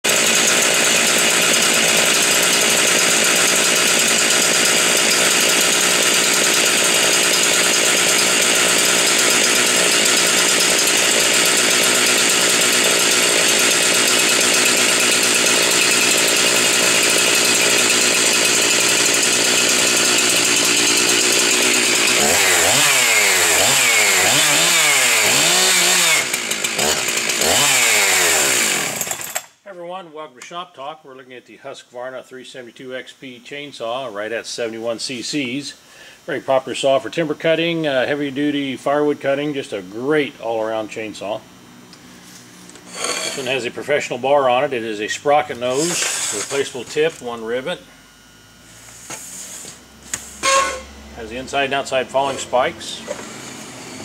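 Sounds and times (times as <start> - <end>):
chainsaw running: 0.0 - 29.6, 34.9 - 47.9, 48.5 - 54.0.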